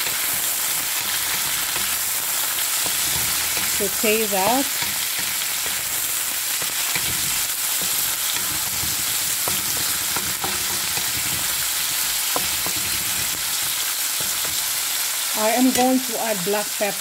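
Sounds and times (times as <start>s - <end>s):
wooden spatula scraping a pan: 0.0s - 14.9s
vegetables sizzling in hot oil: 0.0s - 17.0s.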